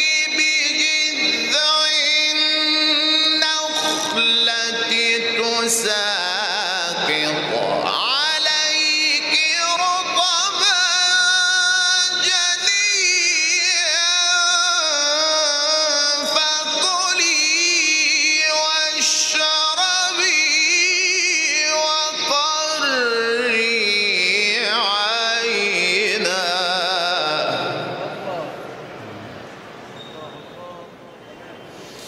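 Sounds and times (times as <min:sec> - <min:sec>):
man reciting melodically: 0:00.0 - 0:28.8.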